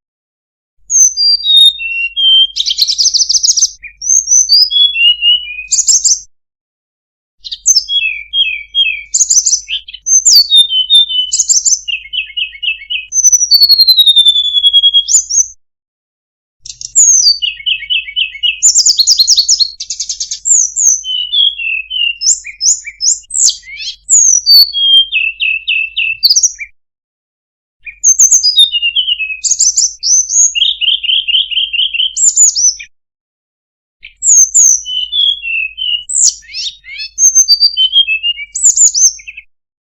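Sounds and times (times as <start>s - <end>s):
bird whistles and chattering trills: 0.9s - 6.3s, 7.4s - 15.6s, 16.6s - 26.8s, 27.8s - 32.9s, 34.0s - 39.5s.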